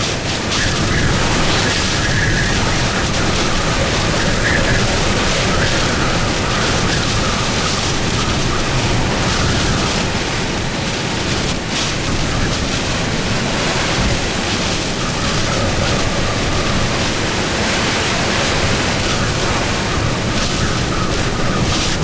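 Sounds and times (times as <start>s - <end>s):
hurricane winds rushing: 0.0s - 22.0s.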